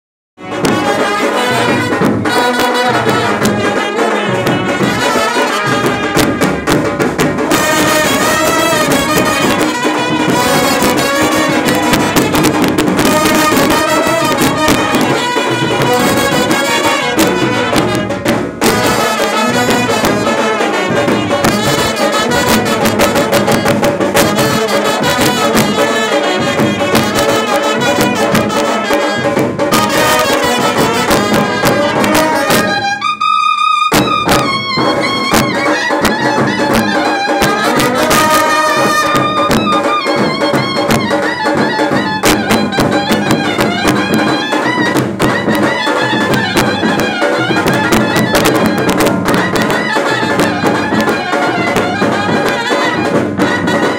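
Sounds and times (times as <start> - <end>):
brass band playing: 0.4 - 53.9.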